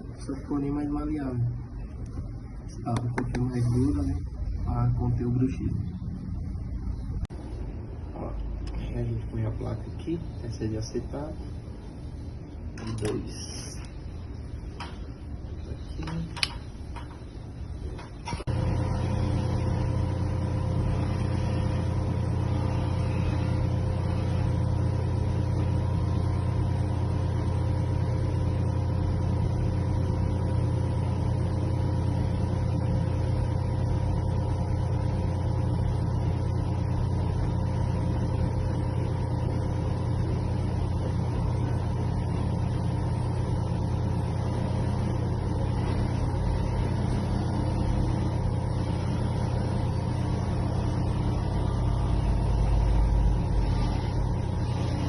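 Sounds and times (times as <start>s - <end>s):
vacuum-forming machine motor hum: 0.0s - 55.0s.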